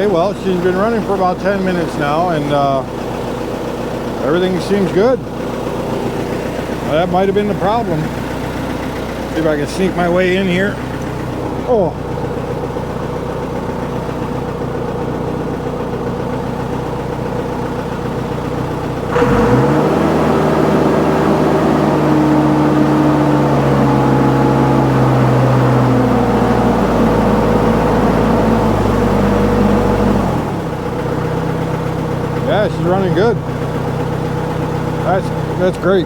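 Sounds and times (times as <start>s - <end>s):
diesel engine idling and revving: 0.0s - 36.0s.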